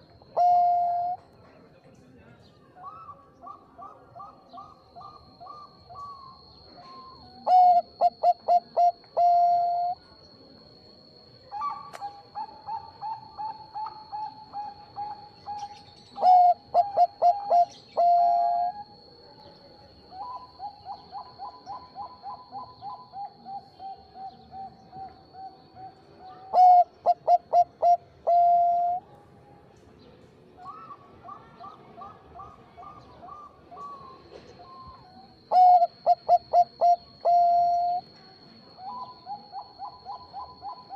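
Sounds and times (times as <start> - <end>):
dove cooing: 0.0 - 1.2, 2.8 - 10.0, 11.5 - 19.1, 20.1 - 29.0, 30.6 - 38.1, 38.7 - 40.9
faint steady high tone: 0.0 - 1.4, 2.5 - 40.9.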